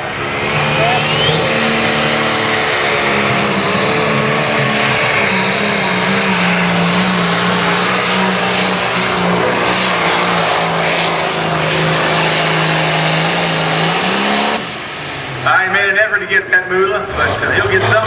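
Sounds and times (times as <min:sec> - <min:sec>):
diesel engine running flat out: 0:00.0 - 0:18.0.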